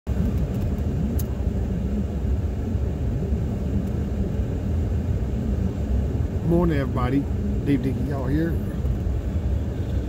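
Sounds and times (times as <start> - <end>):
low vehicle rumble in cabin: 0.0 - 10.0.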